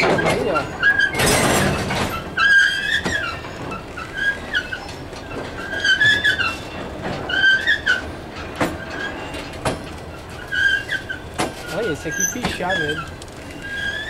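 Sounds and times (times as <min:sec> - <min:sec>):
freight train wagons rumbling: 0:00.0 - 0:14.0
wheels squealing on rails: 0:00.0 - 0:14.0.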